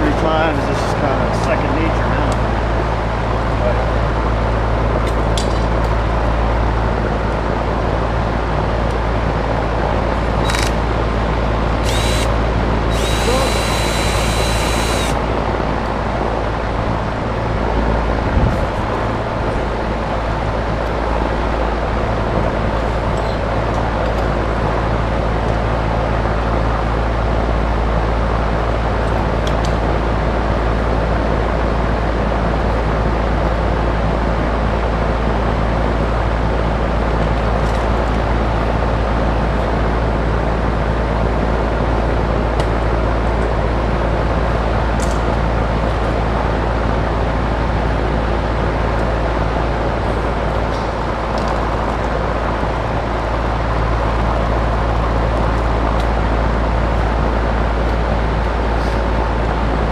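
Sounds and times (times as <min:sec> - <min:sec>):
fan humming: 0:00.0 - 0:59.9.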